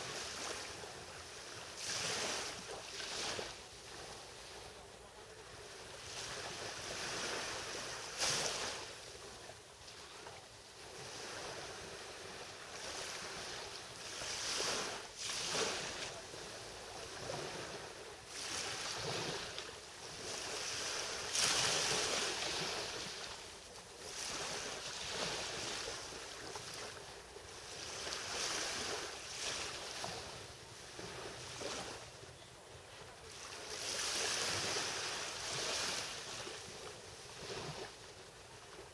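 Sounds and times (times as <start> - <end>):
small waves lapping on a beach: 0.0 - 38.9.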